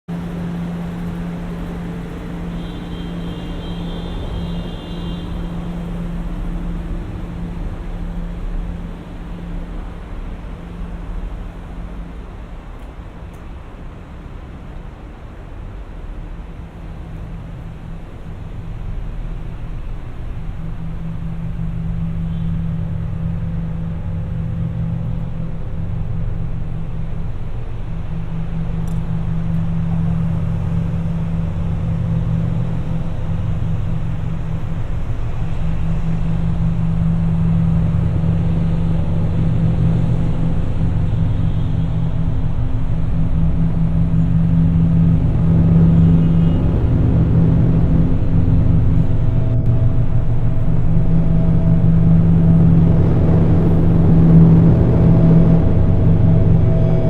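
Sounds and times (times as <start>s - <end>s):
city noise: 0.1s - 57.0s
steady low-pitched hum: 0.1s - 57.0s.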